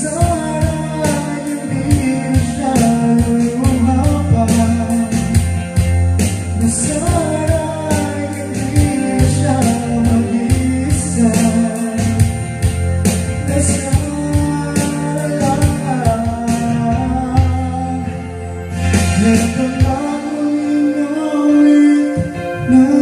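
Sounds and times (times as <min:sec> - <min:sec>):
person singing: 0:00.0 - 0:05.8, 0:06.5 - 0:12.7, 0:13.3 - 0:23.0
karaoke backing music: 0:00.0 - 0:23.0.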